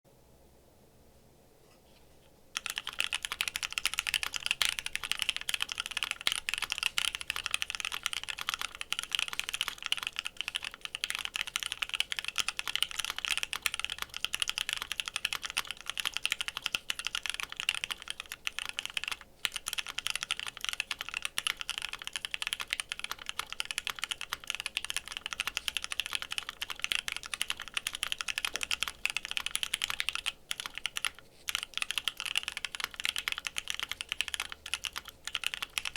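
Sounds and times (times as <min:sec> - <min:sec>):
mechanical keyboard typing: 0:02.6 - 0:35.9.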